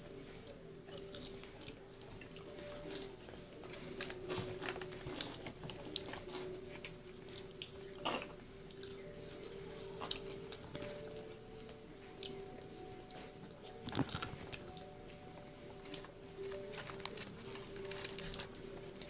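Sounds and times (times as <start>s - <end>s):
boy chewing crunchy food: 0.0s - 19.0s.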